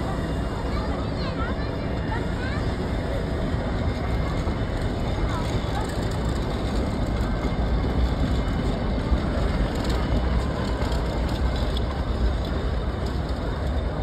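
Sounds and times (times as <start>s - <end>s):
train coaches rumbling past: 0.0s - 14.0s.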